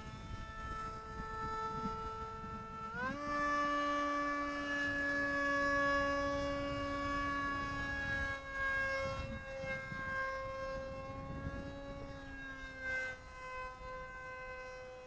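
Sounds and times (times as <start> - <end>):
model plane motor whining: 0.0 - 15.0
wind rumble on microphone: 0.0 - 15.0.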